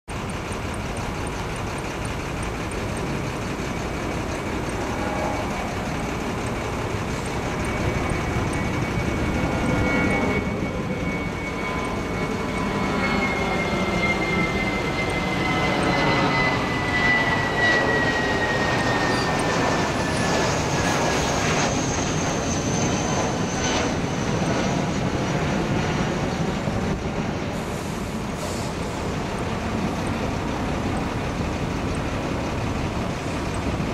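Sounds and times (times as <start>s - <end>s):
jet airliner flying overhead: 0.1s - 33.9s.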